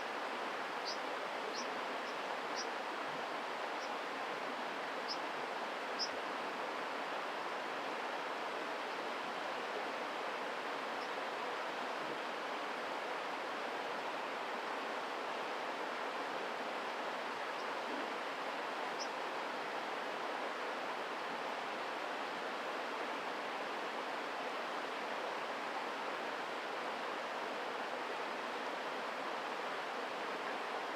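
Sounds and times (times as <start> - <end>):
mountain stream rushing: 0.0 - 30.9.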